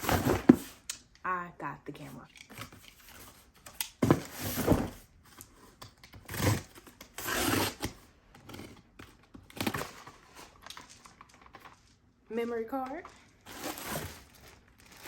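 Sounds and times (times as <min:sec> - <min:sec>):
packaging rustling and scraping: 0:00.0 - 0:00.9, 0:02.3 - 0:15.0.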